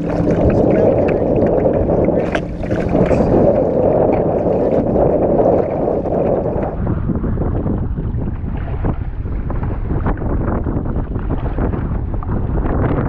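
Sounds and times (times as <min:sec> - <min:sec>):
water lapping against hull: 0:00.0 - 0:13.0
wind buffeting microphone: 0:00.0 - 0:13.0.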